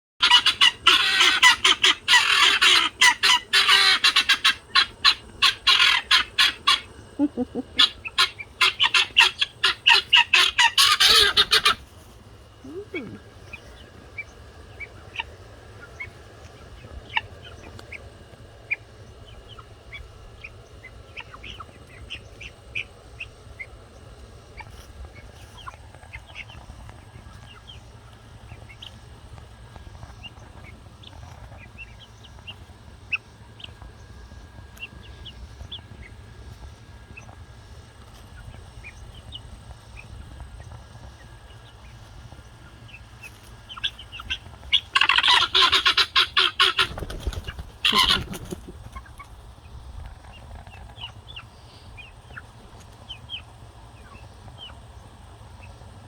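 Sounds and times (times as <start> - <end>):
guinea fowl chicks chirping: 0.2 - 56.0
low steady rumble: 0.3 - 56.0.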